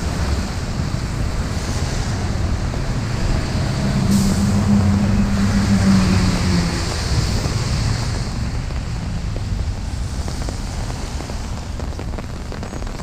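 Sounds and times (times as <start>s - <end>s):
tyres hissing on wet street: 0.0s - 13.0s
wind buffeting microphone: 0.0s - 13.0s.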